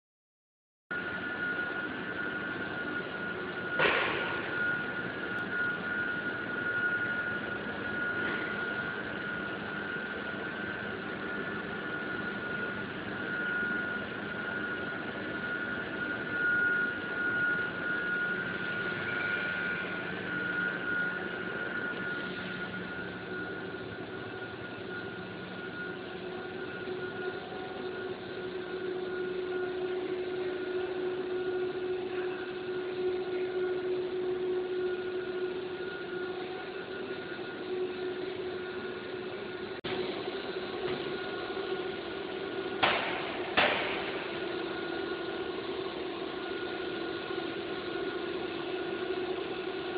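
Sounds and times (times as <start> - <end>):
extrusion machine whine: 0.9 - 49.9
low machine hum: 0.9 - 49.9.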